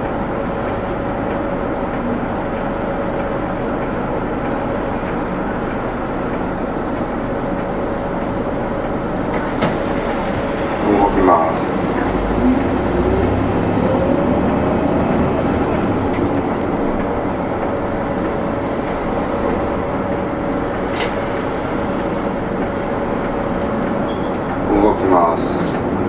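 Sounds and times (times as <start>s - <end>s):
bus engine rumble and whine: 0.0s - 26.0s.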